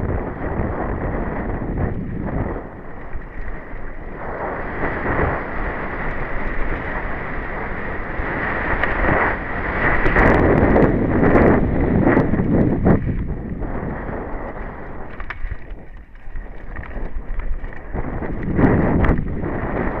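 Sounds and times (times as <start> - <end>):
bike rattling over bumps: 0.0 - 20.0
tyres on dirt trail: 0.0 - 20.0
wind buffeting microphone: 0.0 - 20.0.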